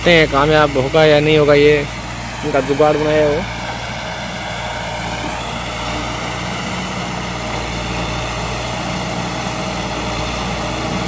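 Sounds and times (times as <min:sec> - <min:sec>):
crane diesel engine running: 0:00.0 - 0:11.0.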